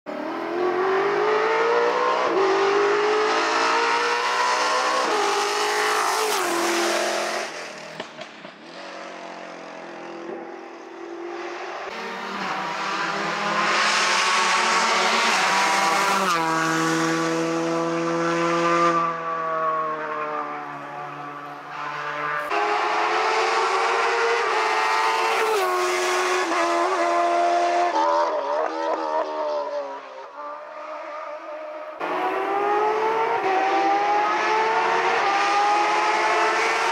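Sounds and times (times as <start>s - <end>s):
race car engines at full throttle: 0.0s - 36.9s.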